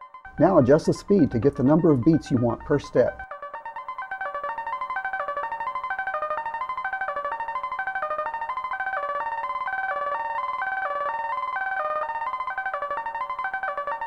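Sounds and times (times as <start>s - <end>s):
synthesizer stuttering melody: 0.0s - 14.0s.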